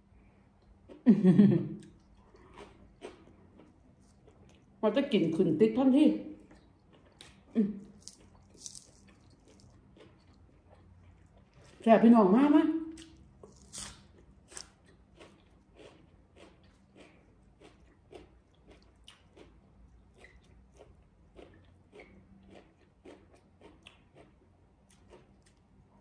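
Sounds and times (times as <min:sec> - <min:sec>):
person chewing leafy greens: 0:01.8 - 0:04.8, 0:06.4 - 0:11.9, 0:12.9 - 0:26.0.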